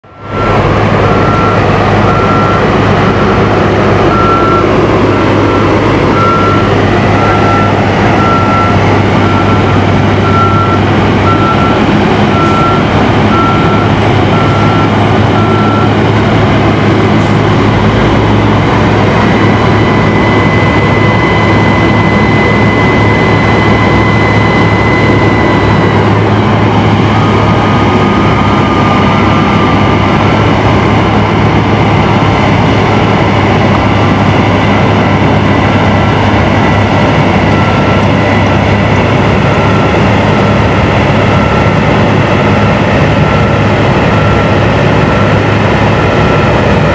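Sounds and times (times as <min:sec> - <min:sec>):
diesel engines running: 0:00.0 - 0:46.9
steady high whine: 0:00.0 - 0:46.9
reversing alarm beeping: 0:00.1 - 0:46.9.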